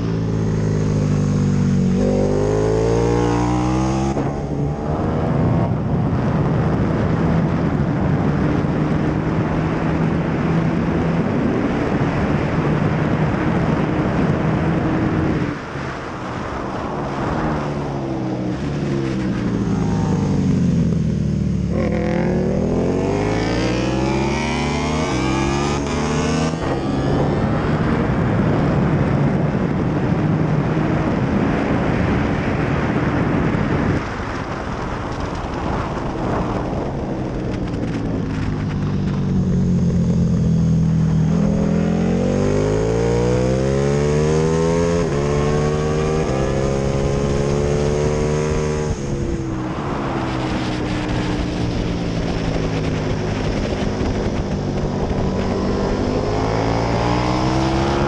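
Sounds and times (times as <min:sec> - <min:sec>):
motorcycle engine at full throttle: 0:00.0 - 0:58.0
wind rush on microphone: 0:00.0 - 0:58.0.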